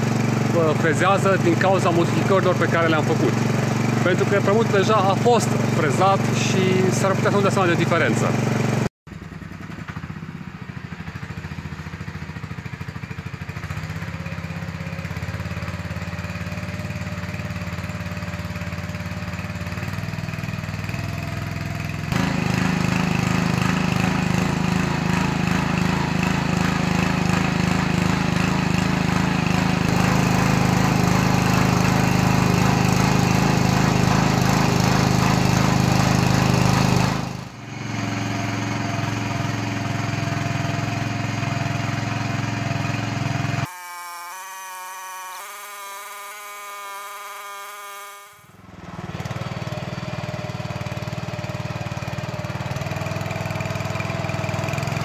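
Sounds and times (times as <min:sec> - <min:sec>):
garden tiller engine running: 0:00.0 - 0:55.0.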